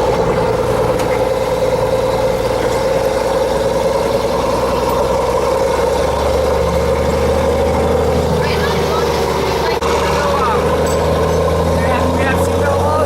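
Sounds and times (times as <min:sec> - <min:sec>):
diesel truck engine drone: 0:00.0 - 0:13.0.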